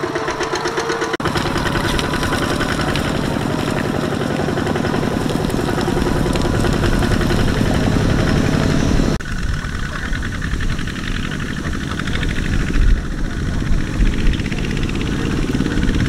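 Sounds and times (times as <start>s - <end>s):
diesel tractor engine chugging: 0.0s - 16.0s.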